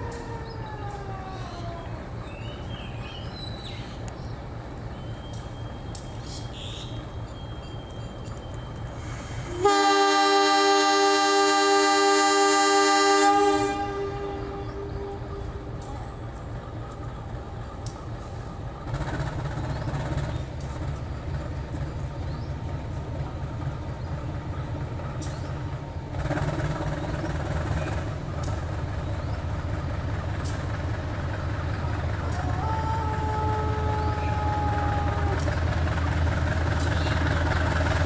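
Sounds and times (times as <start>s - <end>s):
diesel locomotive engine rumbling: 0.0s - 38.0s.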